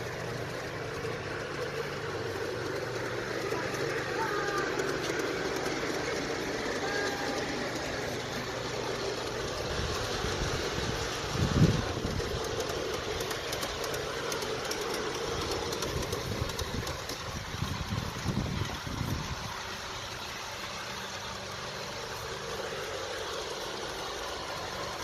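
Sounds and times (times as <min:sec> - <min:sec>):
model train wheels clicking: 0:00.0 - 0:25.0.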